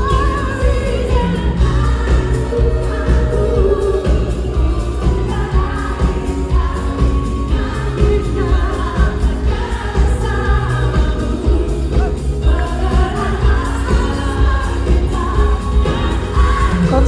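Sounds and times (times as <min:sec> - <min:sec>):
heavy bass line: 0:00.0 - 0:17.0
pop song with singing: 0:00.0 - 0:17.0.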